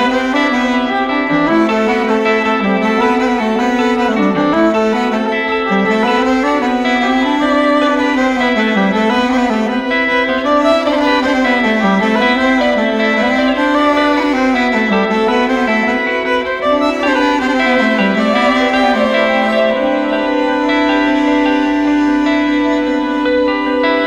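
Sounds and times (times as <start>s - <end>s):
bass clarinet: 0.0s - 24.0s
fiddle: 0.0s - 24.0s.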